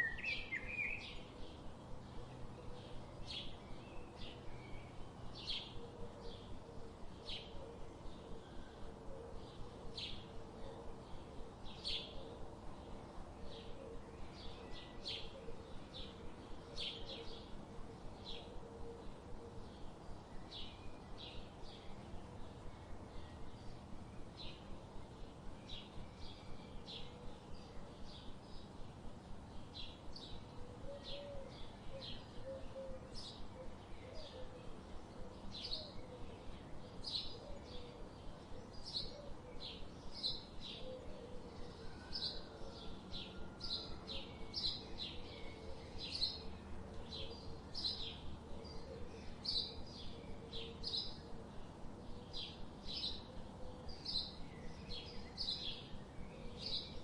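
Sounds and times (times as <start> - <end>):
soft background hiss: 0.0 - 57.0
songbirds chirping: 0.0 - 57.0.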